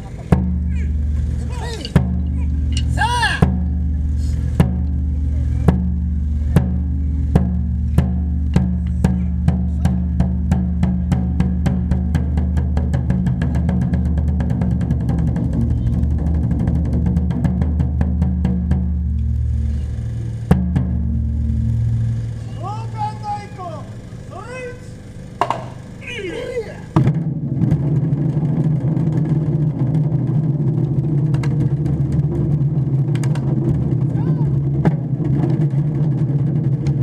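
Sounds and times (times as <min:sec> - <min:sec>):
steady low hum: 0:00.0 - 0:37.0
taiko drums struck: 0:00.2 - 0:24.3, 0:25.3 - 0:26.0, 0:26.9 - 0:37.0.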